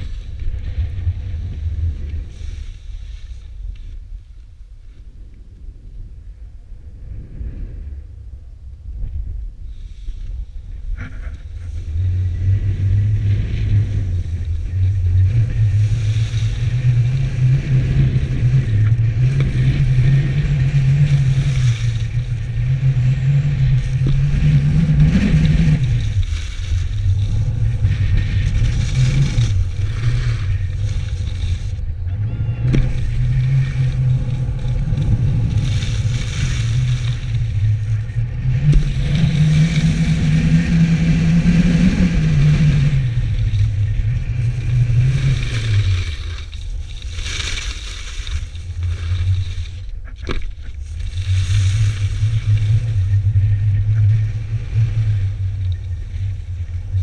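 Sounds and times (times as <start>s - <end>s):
skis scraping over snow: 0.0s - 5.1s, 9.7s - 57.0s
wind buffeting microphone: 0.0s - 57.0s.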